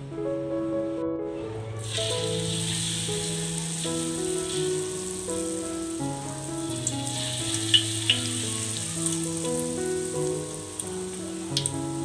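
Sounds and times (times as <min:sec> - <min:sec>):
soft background music: 0:00.0 - 0:12.0
batter deep-frying in oil: 0:01.8 - 0:12.0.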